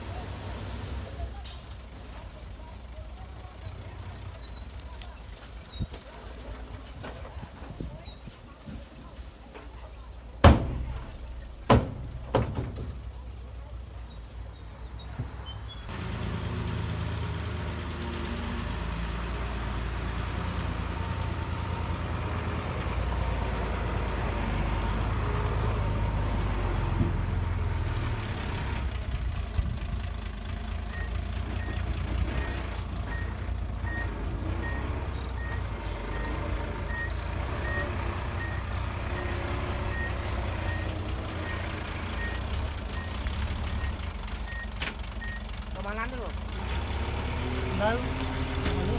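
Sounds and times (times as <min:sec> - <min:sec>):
heavy diesel machinery engine: 0:00.0 - 0:07.9, 0:10.4 - 0:48.9.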